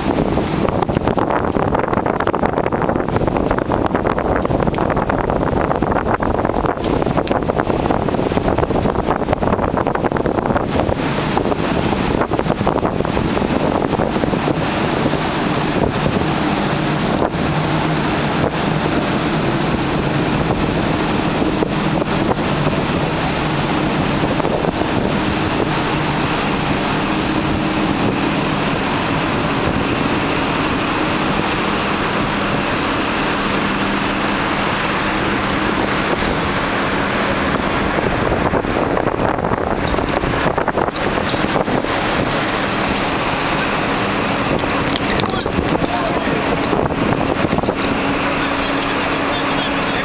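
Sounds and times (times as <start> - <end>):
steady low hum: 0.0 - 50.0
wind buffeting microphone: 0.0 - 50.0.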